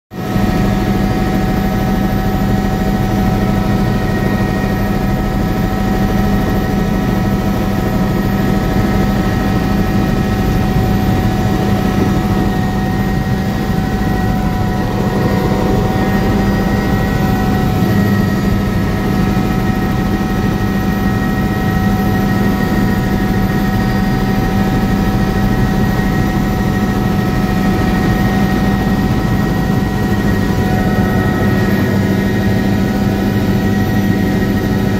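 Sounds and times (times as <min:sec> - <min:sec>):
aircraft engine droning in cabin: 0:00.2 - 0:34.9.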